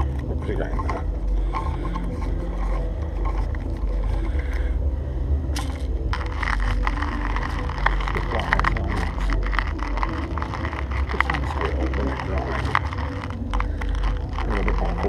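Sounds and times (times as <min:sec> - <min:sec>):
hand grinder crushing coffee beans: 0:00.0 - 0:04.8, 0:05.5 - 0:15.0
low rumble: 0:00.0 - 0:15.0.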